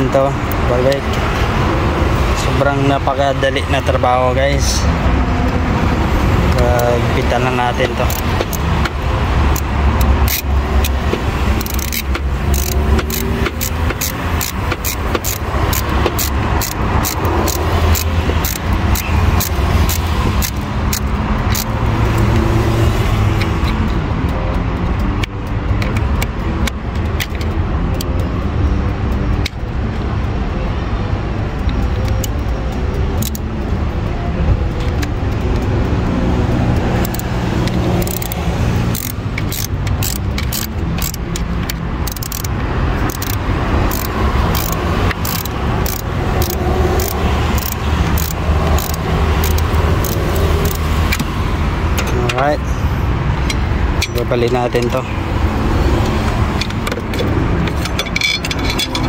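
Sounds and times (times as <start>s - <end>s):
metallic tool clicks and taps: 6.5s - 30.4s, 31.4s - 52.6s, 53.2s - 59.0s.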